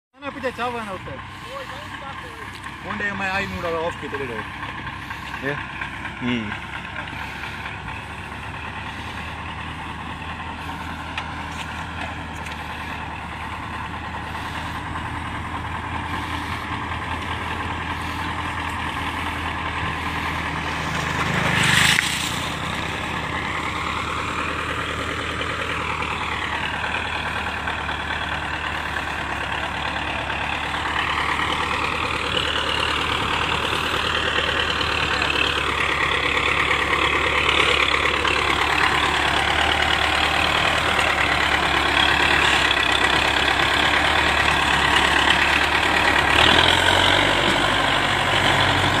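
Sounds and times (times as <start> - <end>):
tractor diesel engine revving: 0.1 - 49.0.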